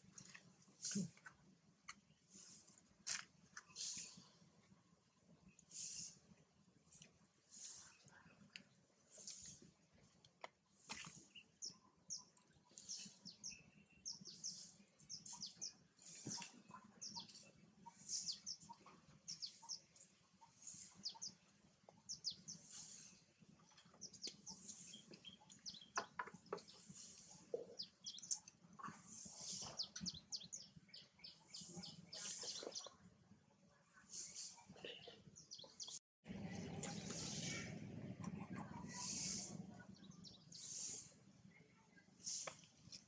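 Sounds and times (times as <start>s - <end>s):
small birds chirping: 0.1s - 43.0s.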